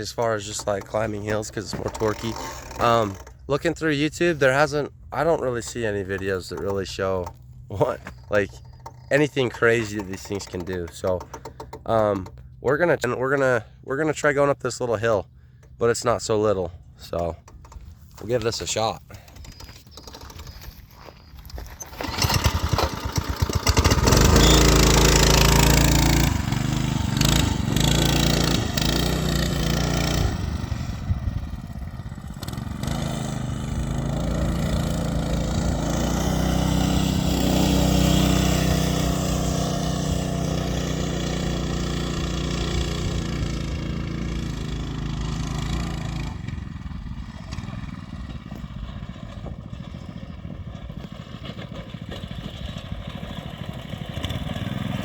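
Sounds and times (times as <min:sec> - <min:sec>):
small engine labouring under load: 0:00.0 - 0:55.0.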